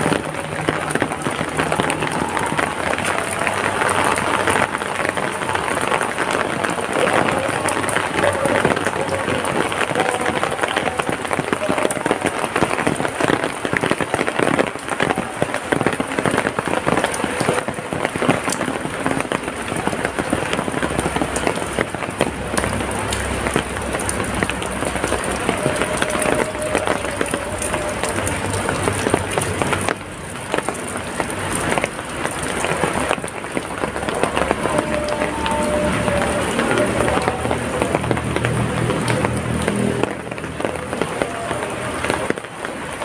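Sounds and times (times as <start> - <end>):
heavy rain pattering: 0.0 - 43.0.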